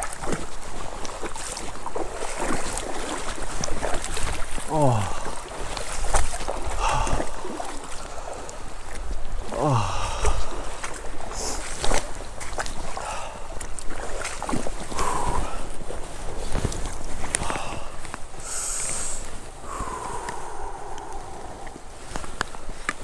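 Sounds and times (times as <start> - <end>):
creek water sloshing: 0.0 - 23.0.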